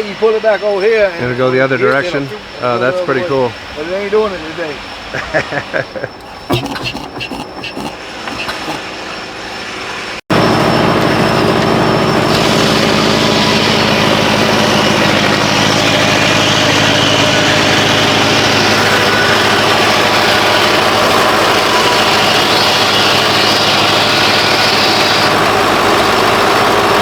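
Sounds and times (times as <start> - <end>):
engine running with low hum: 0.8 - 27.0.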